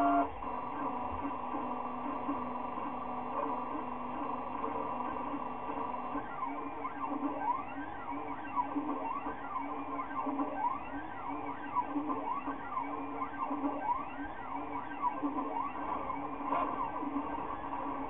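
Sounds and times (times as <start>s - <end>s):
printer stepper motors whining: 0.0s - 18.0s.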